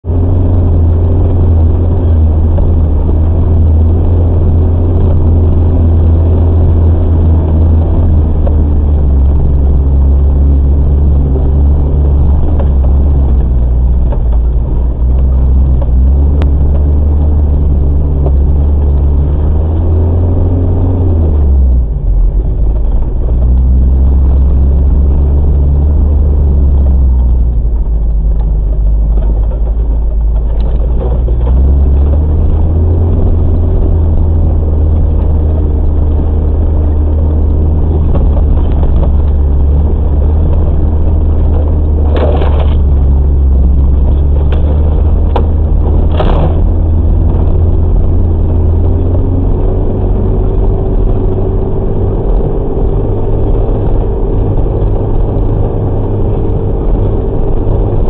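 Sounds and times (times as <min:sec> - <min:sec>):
off-road vehicle engine droning: 0:00.0 - 0:58.0.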